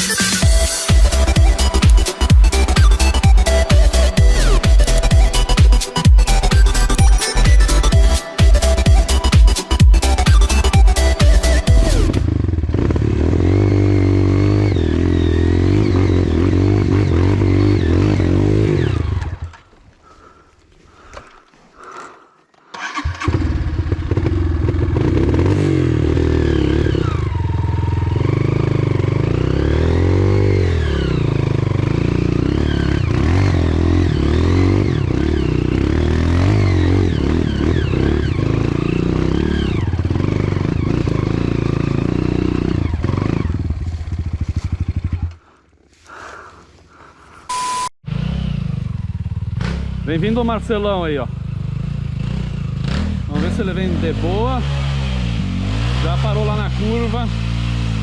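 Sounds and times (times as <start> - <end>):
motorcycle engine revving: 0.0 - 21.1, 22.7 - 58.0.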